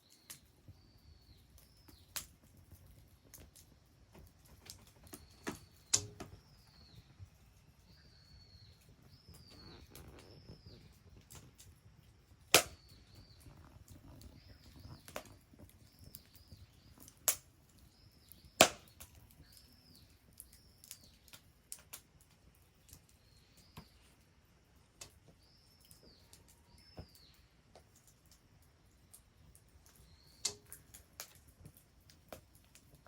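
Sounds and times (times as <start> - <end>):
burning wood snapping: 0.0 - 7.3, 7.9 - 24.0, 24.9 - 33.0
wood fire crackling: 0.0 - 33.0.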